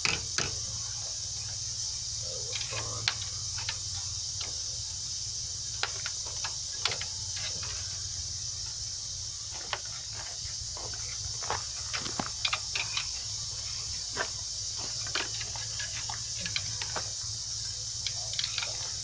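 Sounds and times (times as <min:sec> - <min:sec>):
steady background hum and hiss: 0:00.0 - 0:19.0.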